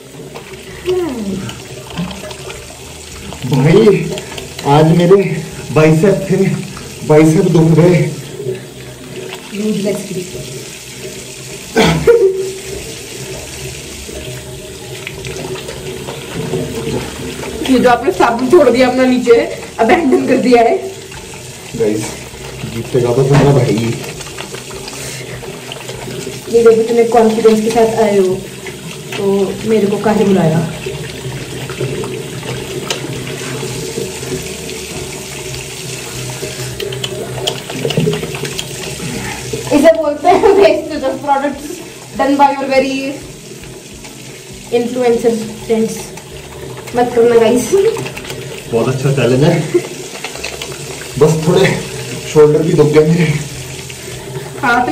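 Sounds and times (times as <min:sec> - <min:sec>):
tap running into sink: 0:00.0 - 0:54.9.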